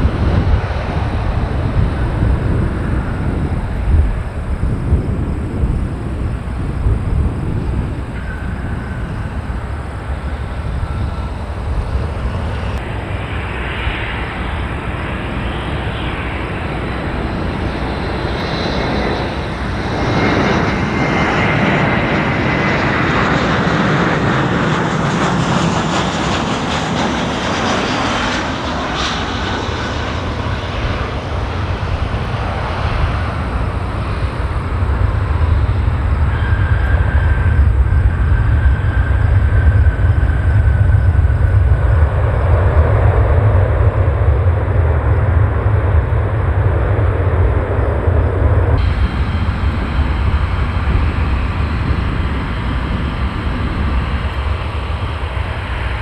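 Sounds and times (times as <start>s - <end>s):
jet airliner passing: 0.0s - 56.0s.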